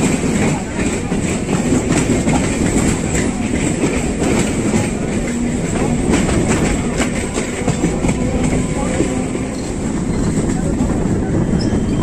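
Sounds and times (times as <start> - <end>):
wheels clicking over rail joints: 0.0 - 11.8
train rail rumble: 0.0 - 12.0.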